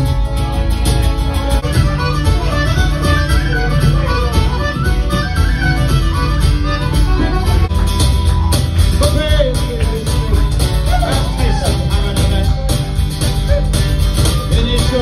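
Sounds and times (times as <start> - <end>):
instrumental accompaniment: 0.0 - 15.0
whistle playing lively tune: 1.6 - 15.0.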